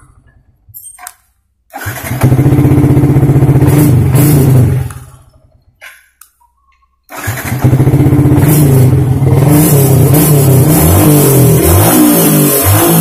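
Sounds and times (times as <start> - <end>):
motorcycle engine starting and idling: 1.0 - 6.2, 7.0 - 13.0.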